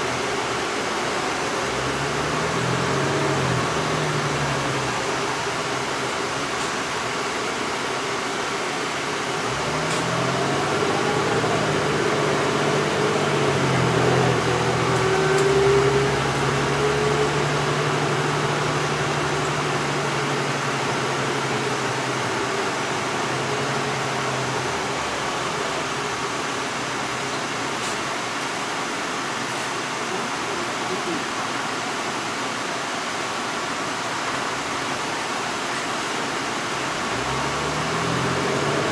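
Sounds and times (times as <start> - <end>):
low engine hum: 0.0 - 31.2, 33.9 - 38.9
bus engine and road noise: 0.0 - 38.9.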